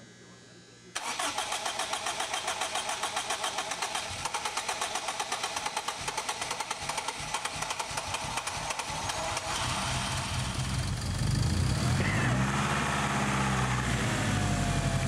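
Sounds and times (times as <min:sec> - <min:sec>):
starter motor cranking engine: 0:01.0 - 0:15.0.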